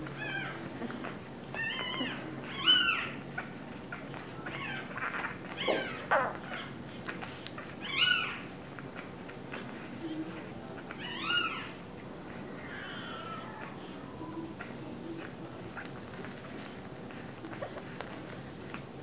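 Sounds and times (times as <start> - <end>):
puppies squeaking and whimpering: 0.0 - 19.0.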